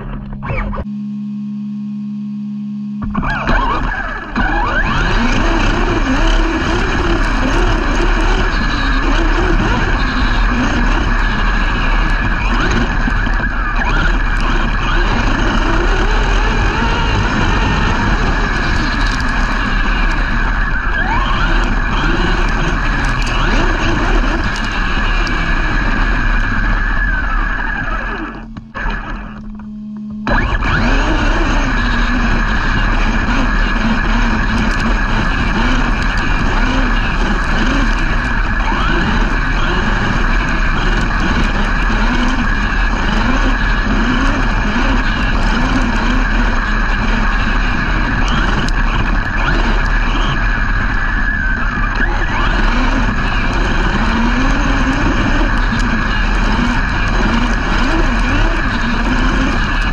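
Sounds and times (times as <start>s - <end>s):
constant rush of noise: 0.0s - 1.1s, 3.0s - 59.9s
electric motors whining: 0.0s - 59.9s.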